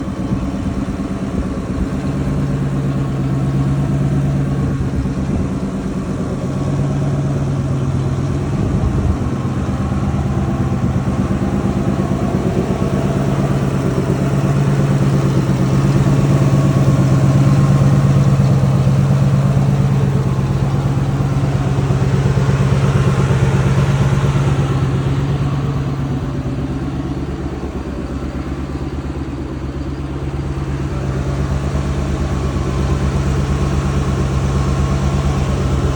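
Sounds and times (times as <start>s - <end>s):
wood chipper engine running: 0.0s - 35.9s.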